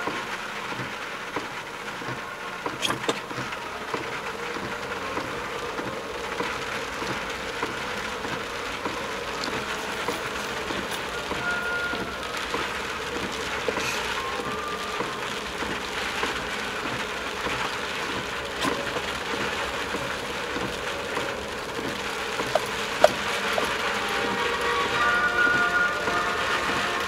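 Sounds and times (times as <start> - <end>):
rain pattering on car: 0.0 - 27.0
tyres hissing on wet road: 0.0 - 27.0.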